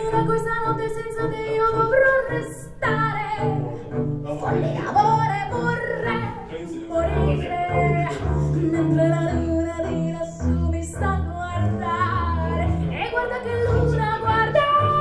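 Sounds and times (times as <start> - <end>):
woman singing: 0.0 - 3.7, 4.9 - 15.0
plucked double bass: 0.0 - 15.0.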